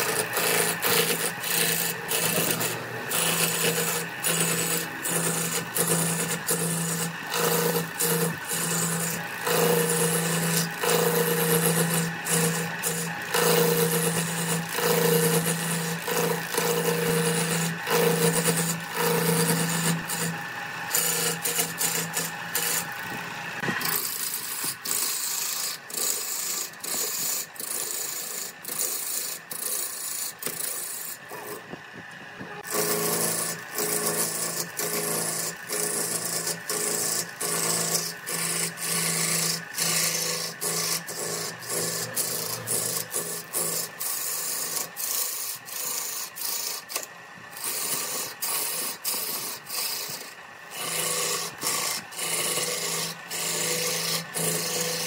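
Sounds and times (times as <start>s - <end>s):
gouge rasping wood on lathe: 0.0s - 31.7s, 32.5s - 55.0s
lathe motor hum: 0.0s - 55.0s.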